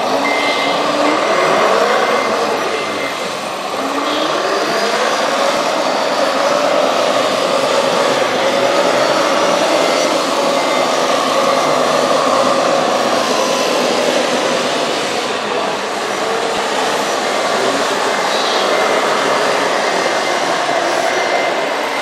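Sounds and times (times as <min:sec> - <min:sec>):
wavering motor whine: 0:00.0 - 0:22.0.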